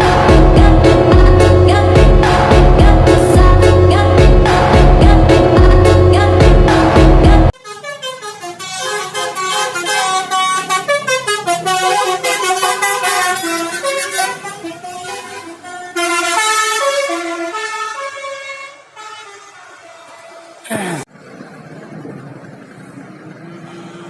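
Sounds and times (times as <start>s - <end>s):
bus musical horn melody: 0.0s - 20.6s.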